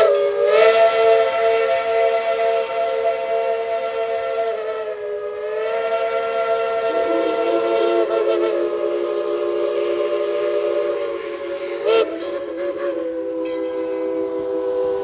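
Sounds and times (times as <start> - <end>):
steam locomotive whistle blast: 0.0 - 15.0.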